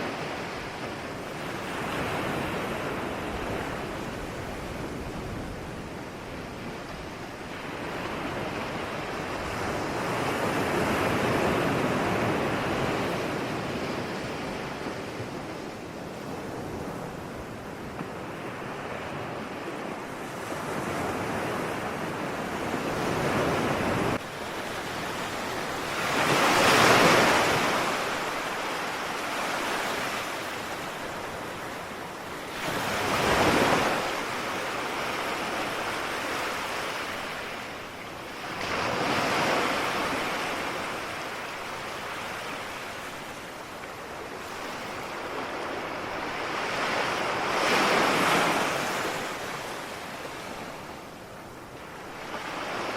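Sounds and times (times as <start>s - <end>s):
ocean surf: 0.0s - 52.9s
waves surging and falling: 0.0s - 52.9s.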